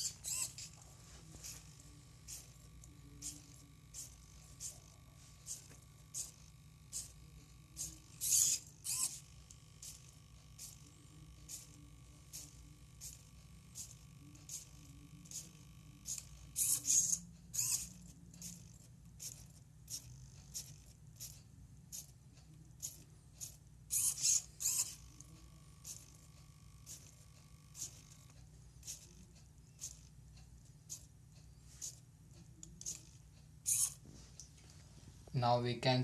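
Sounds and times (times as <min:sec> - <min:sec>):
faint steady hum: 0:00.0 - 0:36.0
mechanical clicks and ticks: 0:01.4 - 0:34.0.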